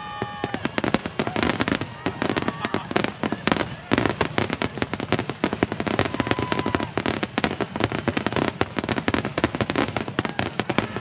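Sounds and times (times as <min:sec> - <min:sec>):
fireworks cracks and bangs: 0:00.0 - 0:11.0.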